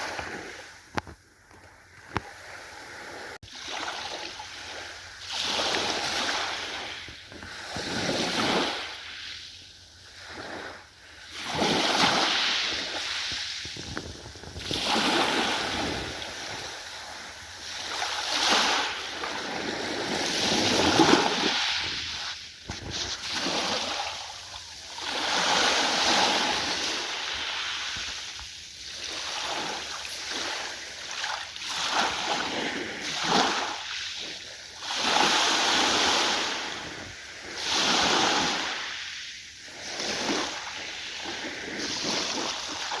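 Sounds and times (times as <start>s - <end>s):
ocean waves breaking: 2.0s - 43.0s.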